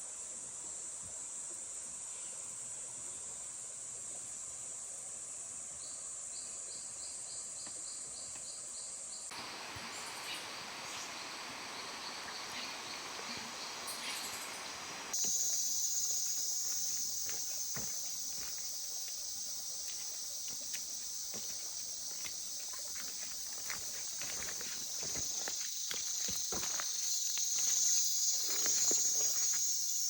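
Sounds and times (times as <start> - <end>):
faint pulsing insect call: 0.0 - 30.0
insect chorus buzzing drone: 0.1 - 30.0.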